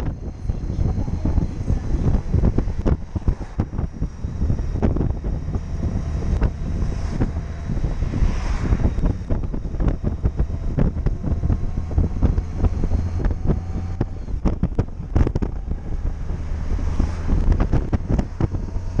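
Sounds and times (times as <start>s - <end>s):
motorcycle engine drone: 0.0s - 19.0s
wind buffeting microphone: 0.0s - 19.0s.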